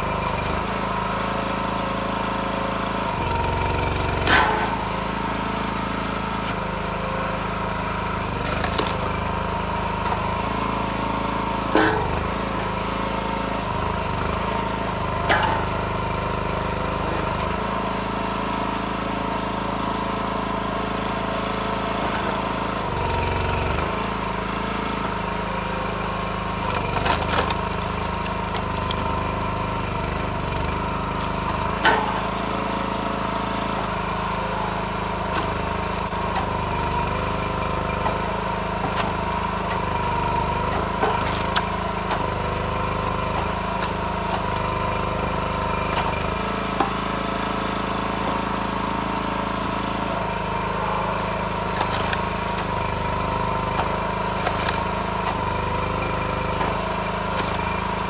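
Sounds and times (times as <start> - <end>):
log splitter engine running: 0.0 - 58.0.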